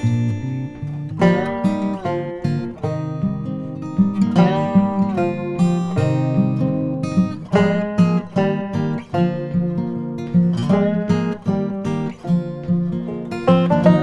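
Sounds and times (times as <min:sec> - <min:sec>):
acoustic guitar country music: 0:00.0 - 0:14.0.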